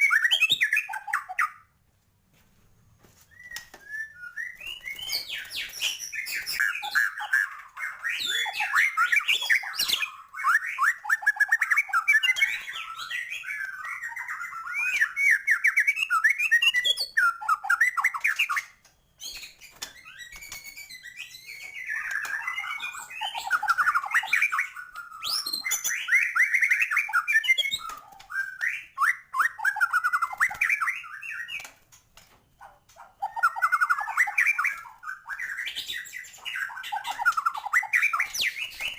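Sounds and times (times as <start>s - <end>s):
songbird singing varied song: 3.3s - 31.7s, 32.6s - 38.9s.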